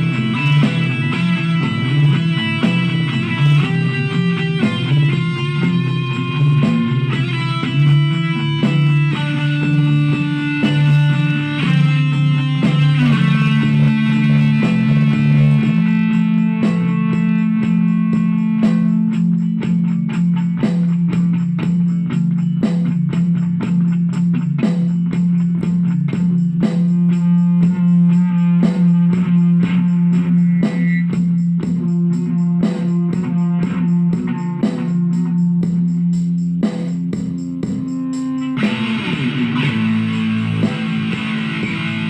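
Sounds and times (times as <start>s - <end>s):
guitar picked notes: 0.0s - 35.9s, 37.2s - 42.0s.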